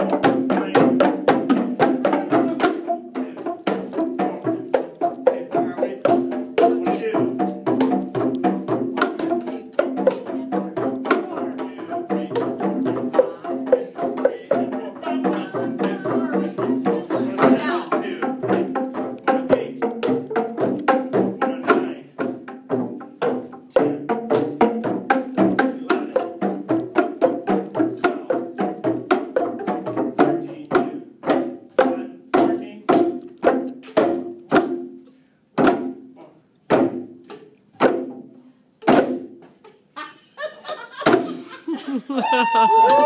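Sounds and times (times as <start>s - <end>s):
plastic percussion tubes struck: 0.0s - 39.4s.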